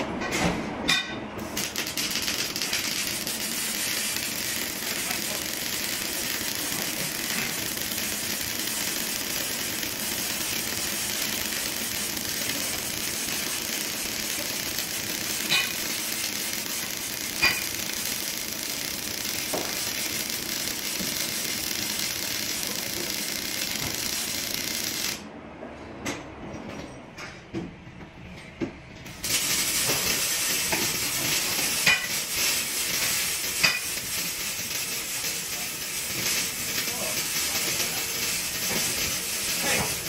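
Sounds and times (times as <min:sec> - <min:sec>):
welding arc crackling and hissing: 0:01.4 - 0:25.2, 0:29.1 - 0:40.0
welding arc pops: 0:01.4 - 0:25.2, 0:29.1 - 0:40.0.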